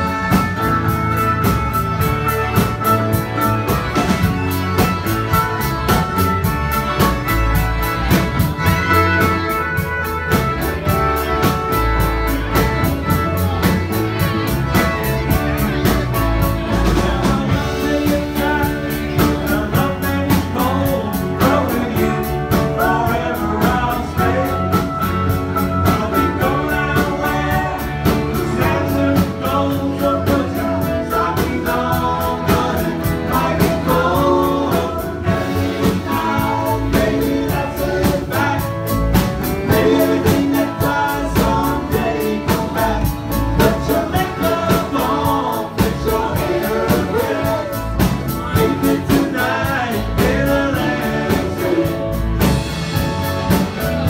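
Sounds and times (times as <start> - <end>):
live band with accordion: 0.0 - 54.0.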